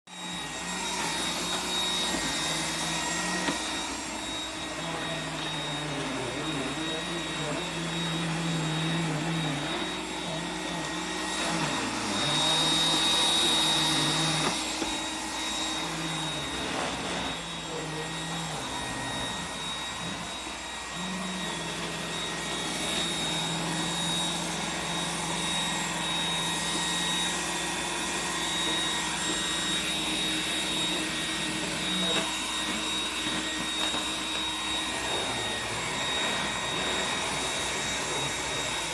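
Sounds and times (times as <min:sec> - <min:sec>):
robot vacuum whirring: 0:00.1 - 0:38.9.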